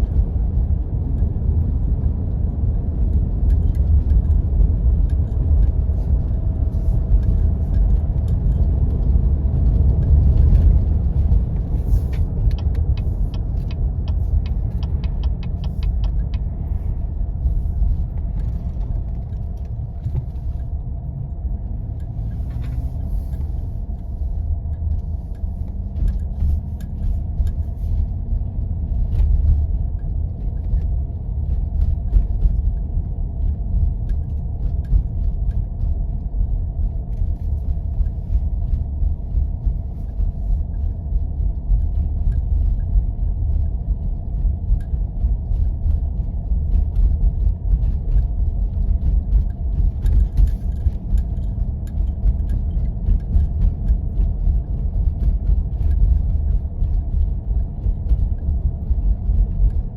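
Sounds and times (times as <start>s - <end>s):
vehicle rumbling on snow: 0.0s - 59.9s.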